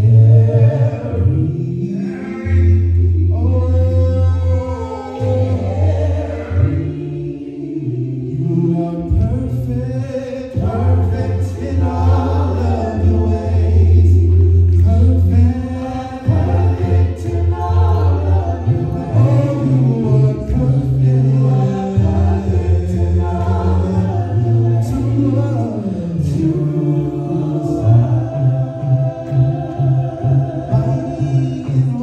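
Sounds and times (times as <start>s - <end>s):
choir singing in harmony: 0.0s - 32.0s.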